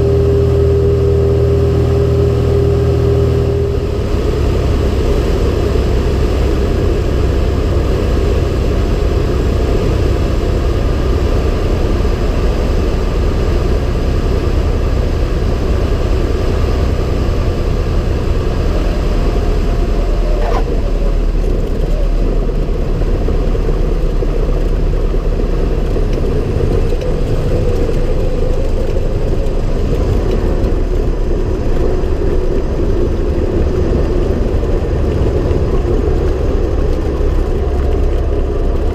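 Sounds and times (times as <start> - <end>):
aircraft engine and propeller: 0.0 - 38.9.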